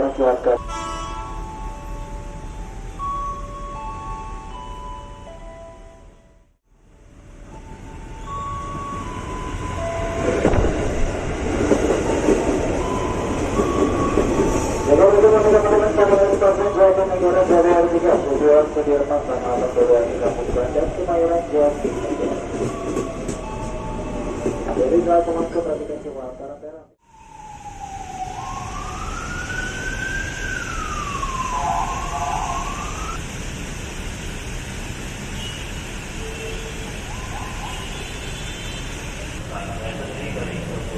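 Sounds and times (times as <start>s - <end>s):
moving train rumble: 0.0s - 40.9s.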